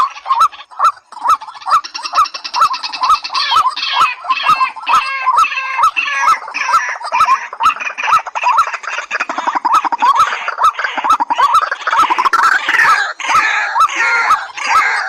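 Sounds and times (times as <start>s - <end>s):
harsh chattering calls: 0.0s - 15.0s
waterbird calls: 0.0s - 15.0s.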